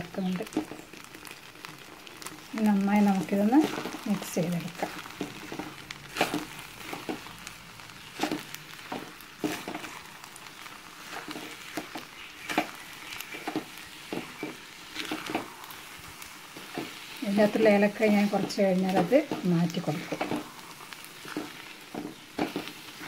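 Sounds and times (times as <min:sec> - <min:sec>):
faint sizzle: 0:00.0 - 0:23.0
wooden spatula scraping a pot: 0:00.2 - 0:23.0.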